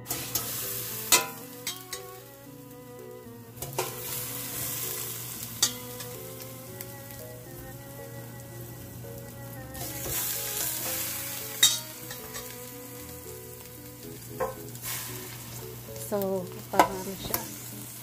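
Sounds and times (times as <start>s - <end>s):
meat sizzling in hot basket: 0.0s - 18.0s.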